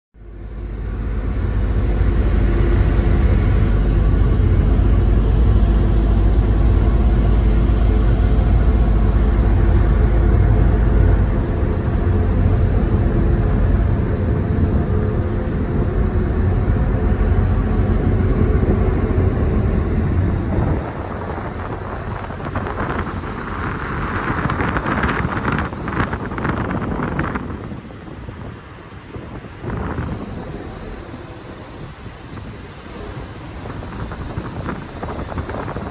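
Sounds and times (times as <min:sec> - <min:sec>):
wind: 0:00.1 - 0:35.9
ferry diesel engines rumbling: 0:00.2 - 0:35.9.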